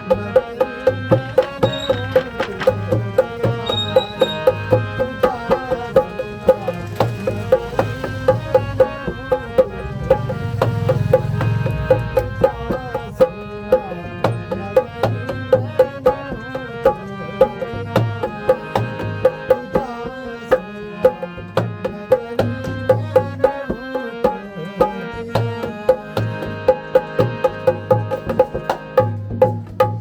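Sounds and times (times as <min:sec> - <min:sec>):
hand drum beat: 0:00.0 - 0:30.0
held melody line: 0:00.0 - 0:30.0.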